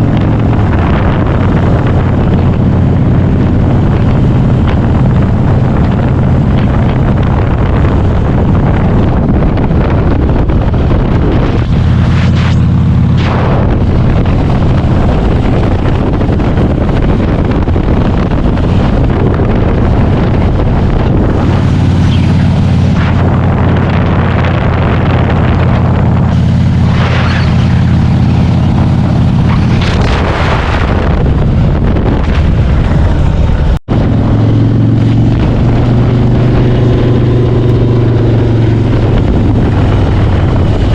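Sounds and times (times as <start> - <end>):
loud low rumble: 0.0 - 40.9
wind buffeting microphone: 0.0 - 40.9.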